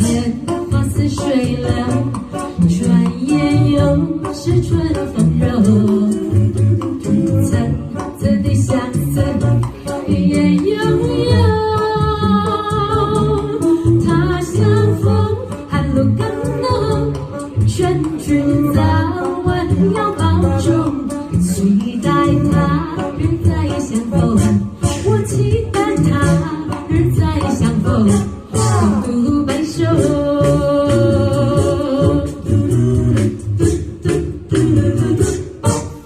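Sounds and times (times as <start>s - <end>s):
beatboxing: 0.0s - 36.0s
vocal ensemble singing in harmony: 0.0s - 36.0s.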